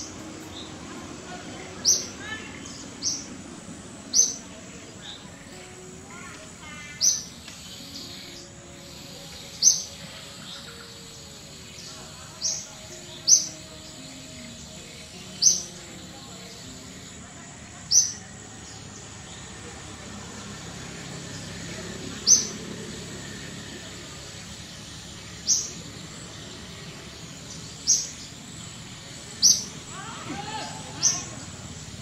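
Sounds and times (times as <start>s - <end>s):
outdoor background hum: 0.0s - 13.6s, 15.1s - 32.0s
bird chirping: 0.0s - 32.0s.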